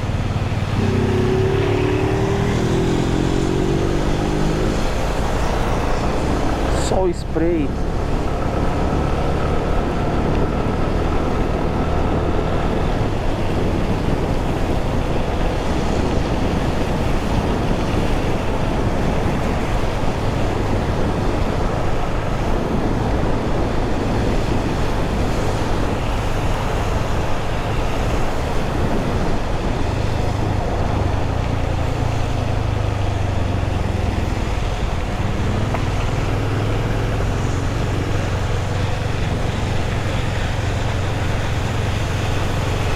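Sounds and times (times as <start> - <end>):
wind and road noise: 0.0 - 42.9.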